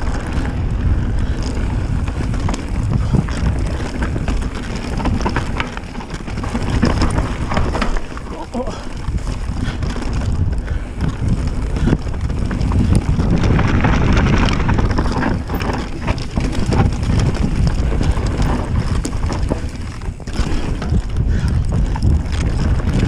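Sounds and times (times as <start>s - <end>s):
bike rattling over bumps: 0.0s - 23.0s
bike tyre rumble on dirt: 0.0s - 23.0s
wind buffeting microphone: 0.0s - 23.0s.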